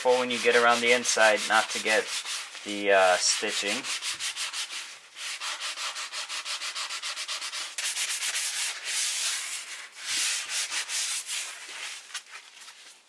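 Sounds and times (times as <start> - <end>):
sanding pad scuffing leather: 0.0 - 12.3.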